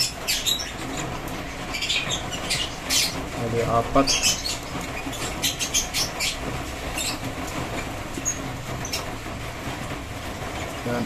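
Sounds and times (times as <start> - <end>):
bird chicks squeaking: 0.0 - 9.4.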